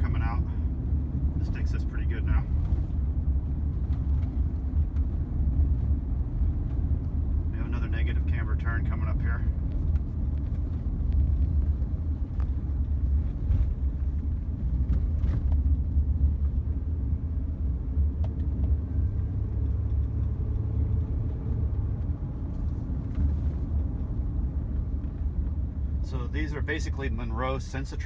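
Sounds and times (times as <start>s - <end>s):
vehicle road and engine rumble: 0.0s - 28.0s.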